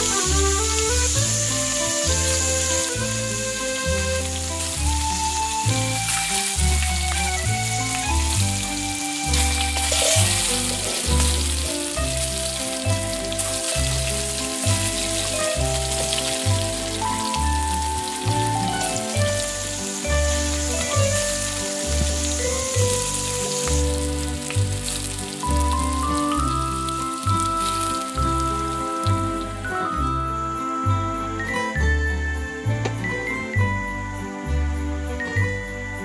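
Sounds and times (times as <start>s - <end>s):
food sizzling in a pan: 0.0s - 30.1s
music with pulsing bass: 0.0s - 36.0s.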